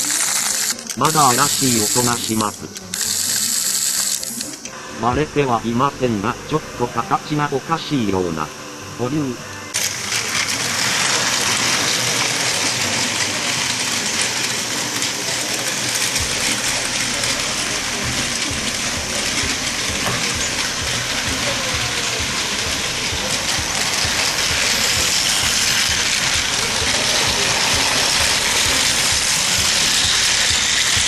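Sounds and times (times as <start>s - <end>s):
fast gear clicking: 0.0s - 4.7s, 9.7s - 31.0s
toy train motor whirring: 0.0s - 8.5s, 9.7s - 31.0s.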